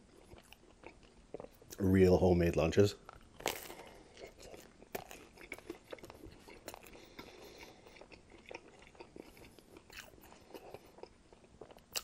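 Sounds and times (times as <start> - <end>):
person chewing a sandwich: 0.0 - 1.8, 3.0 - 12.0.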